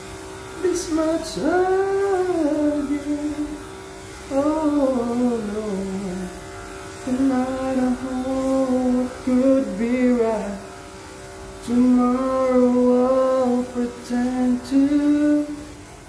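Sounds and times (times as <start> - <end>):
steady low hum: 0.0 - 16.0
solo voice singing: 0.6 - 3.7, 4.3 - 6.4, 7.0 - 10.7, 11.6 - 15.8.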